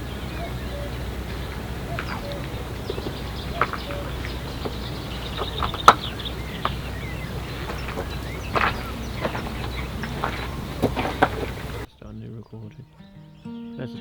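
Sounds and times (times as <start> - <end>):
wind on microphone: 0.0 - 11.9
birds calling: 0.0 - 14.0.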